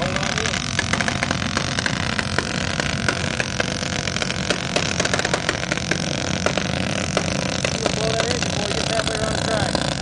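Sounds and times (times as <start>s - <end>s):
atv engines revving hard: 0.0s - 10.0s.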